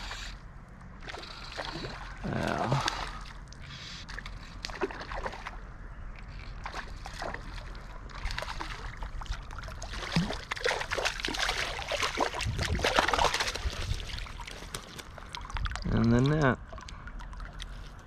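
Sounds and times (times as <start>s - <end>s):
fish splashing and thrashing: 0.0s - 18.0s.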